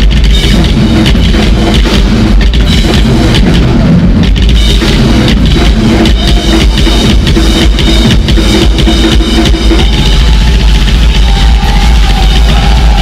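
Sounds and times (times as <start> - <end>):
bass drum rumble: 0.0 - 13.0
rapid drumming: 0.0 - 13.0.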